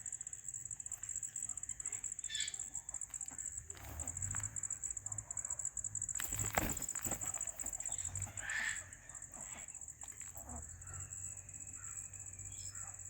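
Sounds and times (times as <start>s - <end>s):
parrots making soft sounds: 0.0s - 13.0s.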